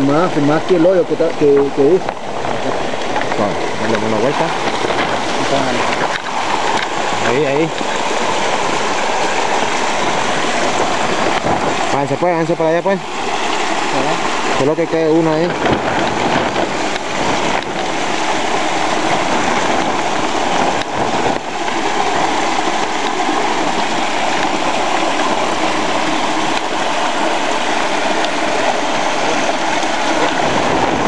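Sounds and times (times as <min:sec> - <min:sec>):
heavy rain falling: 0:00.0 - 0:31.0
runoff water streaming over cobblestones: 0:00.0 - 0:31.0.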